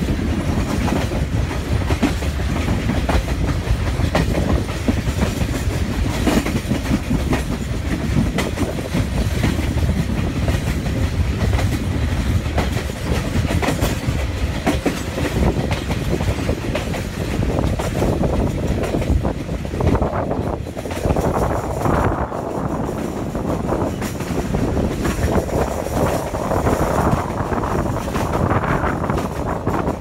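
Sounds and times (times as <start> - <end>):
train running noise: 0.0 - 30.0
train wheels clattering over rails: 0.0 - 30.0
sharp rail clicks: 0.1 - 30.0.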